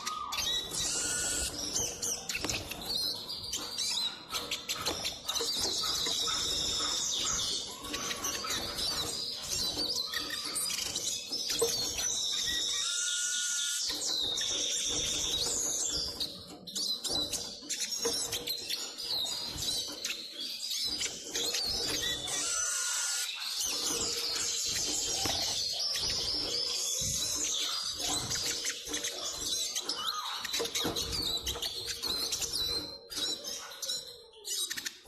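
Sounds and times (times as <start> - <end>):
bird twittering song: 0.0 - 35.0.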